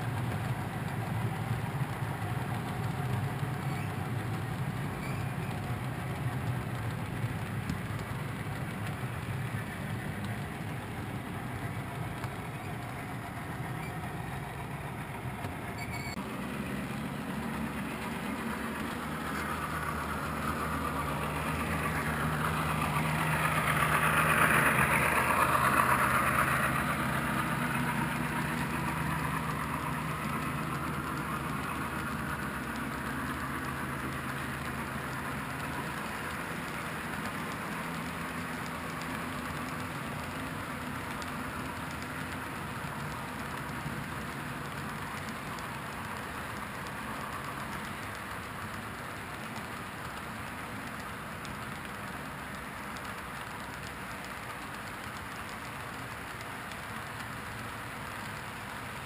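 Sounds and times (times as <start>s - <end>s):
low hum: 0.0s - 51.6s
model train wheels clattering on rails: 0.0s - 59.0s.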